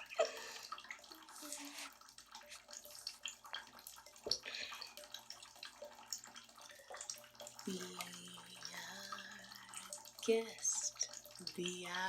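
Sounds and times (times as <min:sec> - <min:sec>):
water dripping: 0:00.0 - 0:12.0
water sloshing in bathtub: 0:00.0 - 0:12.0.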